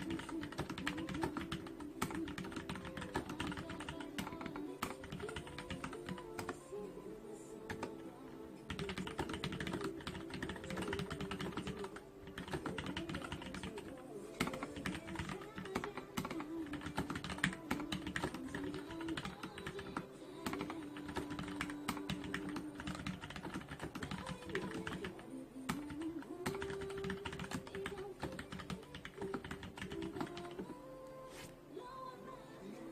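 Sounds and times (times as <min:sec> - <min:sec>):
fast typing on mechanical keyboard: 0:00.0 - 0:06.6, 0:08.7 - 0:30.6
background music: 0:00.0 - 0:32.9.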